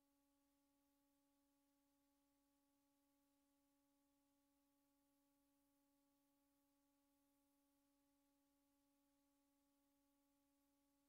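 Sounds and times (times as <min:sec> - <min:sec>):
faint steady tone: 0:00.0 - 0:11.0.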